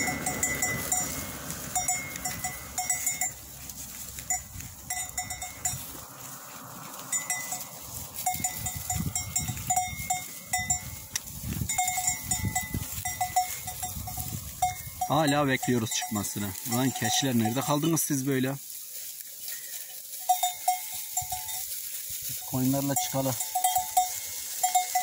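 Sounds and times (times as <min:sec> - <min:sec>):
livestock bells clanking: 0:00.0 - 0:25.0.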